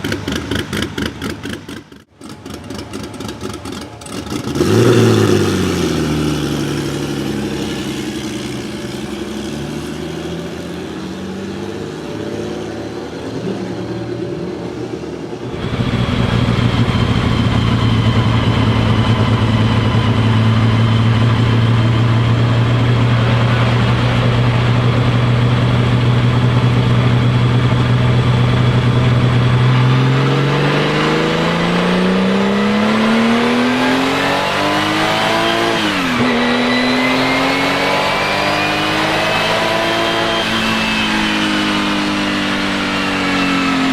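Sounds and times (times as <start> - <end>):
race car engine droning: 0.0 - 43.9.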